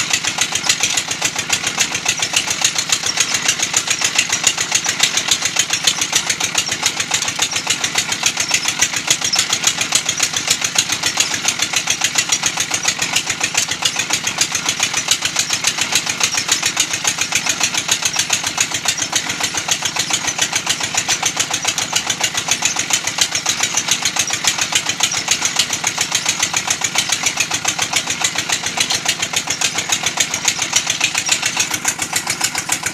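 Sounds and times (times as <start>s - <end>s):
brick-making machine clattering: 0.0s - 32.9s.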